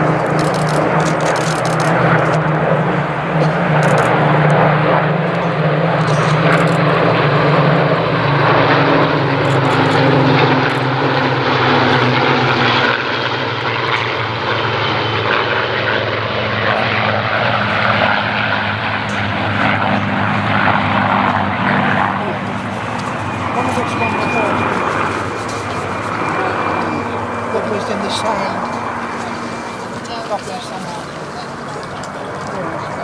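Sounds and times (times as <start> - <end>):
propeller aircraft flying past: 0.0 - 33.0.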